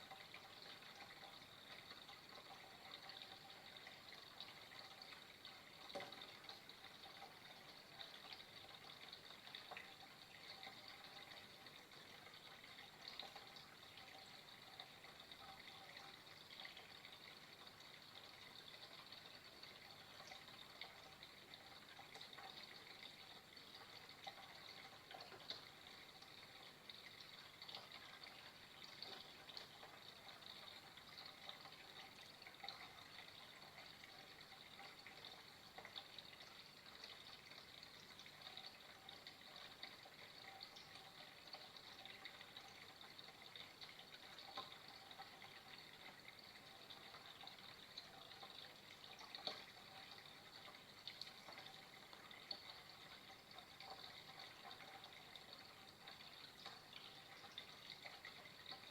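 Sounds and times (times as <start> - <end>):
trickle of flowing water: 0.0 - 58.9.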